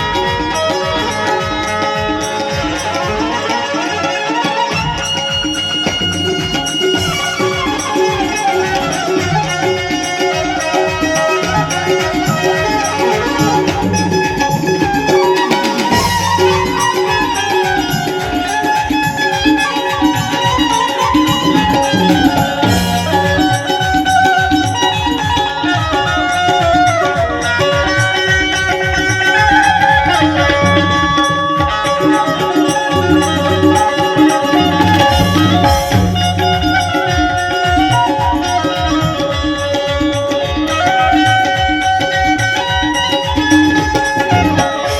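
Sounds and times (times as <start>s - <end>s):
banjo playing folk melody: 0.0s - 44.9s
steady percussion beat: 0.0s - 44.9s.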